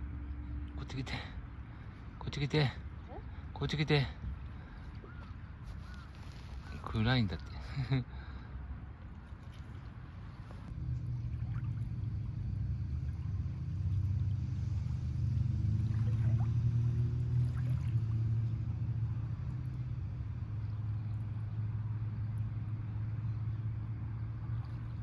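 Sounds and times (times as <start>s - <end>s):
motorboat engine running: 0.0s - 7.4s, 9.0s - 25.0s.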